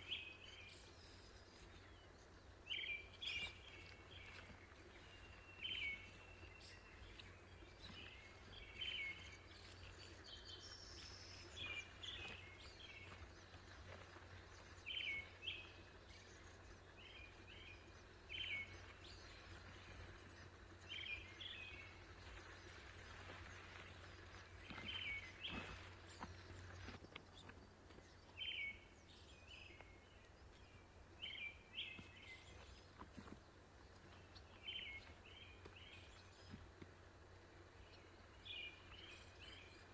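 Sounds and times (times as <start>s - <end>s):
faint low rumble: 0.0s - 39.9s.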